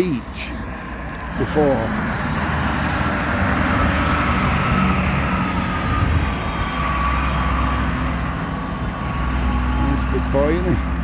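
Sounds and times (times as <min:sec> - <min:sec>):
lorry diesel engine passing: 0:00.0 - 0:11.0.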